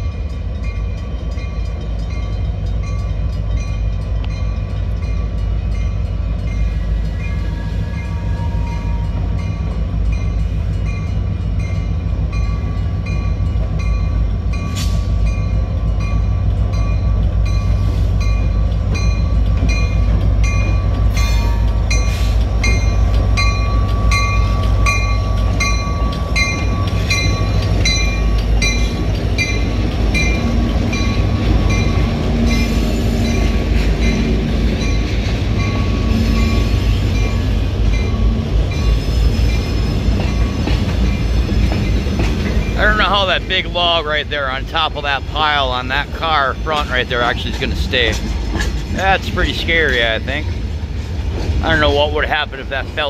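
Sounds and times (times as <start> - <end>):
crossing bell ringing: 0.0 - 50.8
diesel locomotives rumbling: 0.0 - 53.0.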